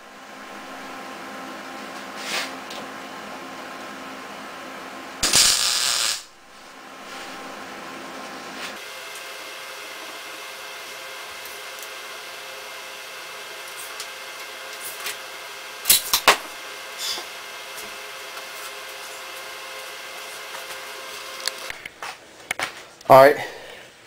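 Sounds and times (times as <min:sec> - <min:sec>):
shop equipment hum: 0:00.0 - 0:24.0.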